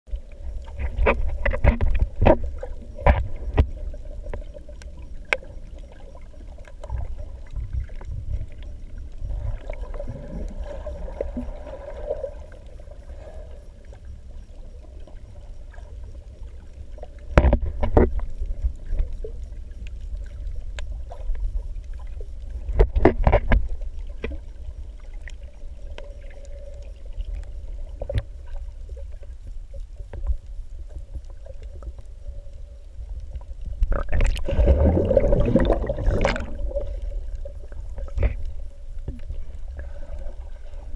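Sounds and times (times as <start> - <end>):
faint steady hum: 0.1 - 40.9
muffled underwater rumble: 0.1 - 40.9.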